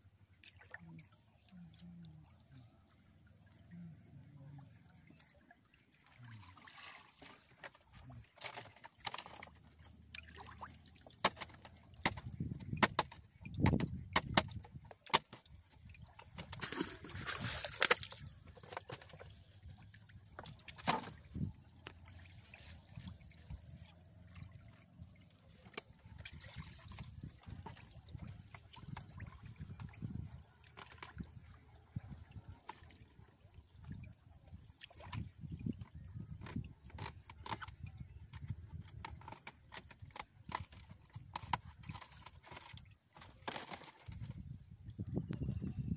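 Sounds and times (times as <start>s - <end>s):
rush of water: 0.0s - 44.4s
water trickling and splashing: 0.0s - 45.9s.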